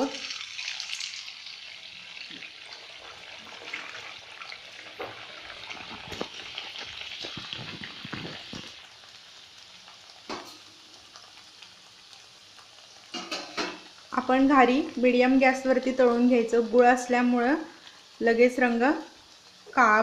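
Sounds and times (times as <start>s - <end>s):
oil crackles: 0.0s - 18.6s
food sizzling in hot oil: 0.0s - 20.0s.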